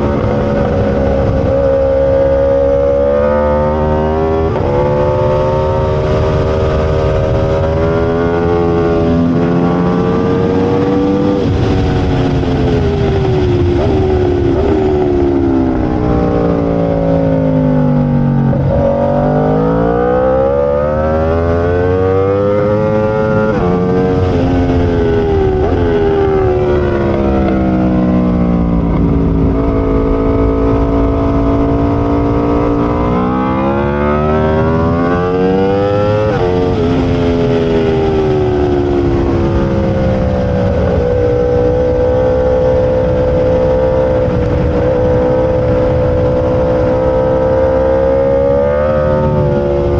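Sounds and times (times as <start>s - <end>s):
superbike engine revving: 0.0s - 49.9s.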